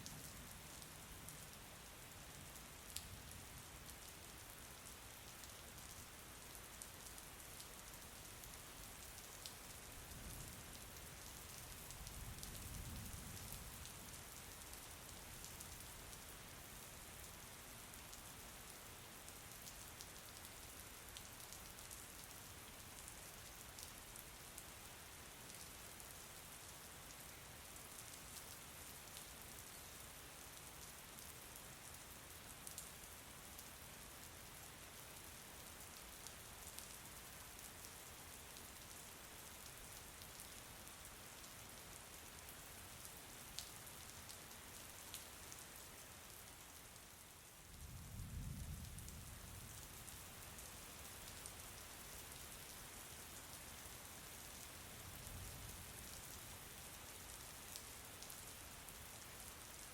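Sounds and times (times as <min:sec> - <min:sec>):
faint rain falling: 0:00.0 - 0:59.9.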